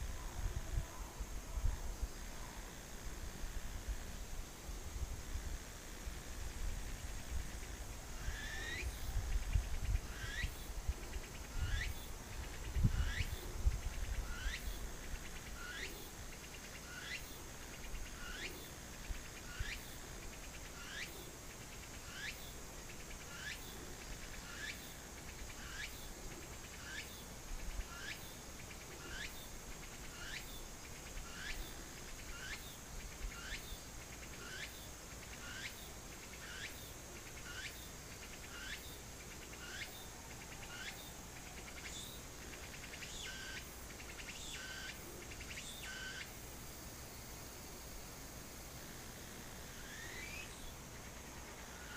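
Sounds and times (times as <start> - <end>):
high-pitched insect trill: 0.0 - 51.9
insect chirp sliding downward: 0.0 - 51.9.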